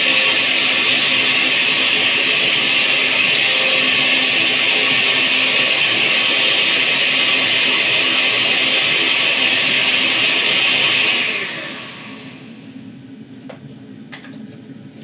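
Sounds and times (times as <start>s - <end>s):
blender motor winding down: 0.0s - 12.7s
blender running: 0.0s - 12.7s.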